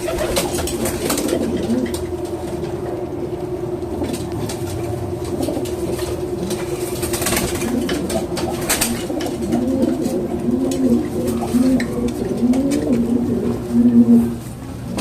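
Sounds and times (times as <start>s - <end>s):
pigeon cooing: 0.0s - 15.0s.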